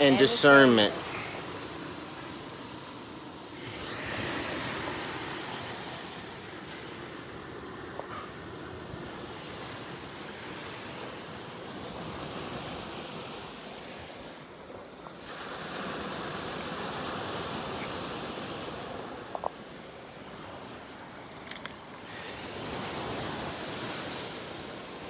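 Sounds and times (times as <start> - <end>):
surf breaking on beach: 0.0 - 25.0.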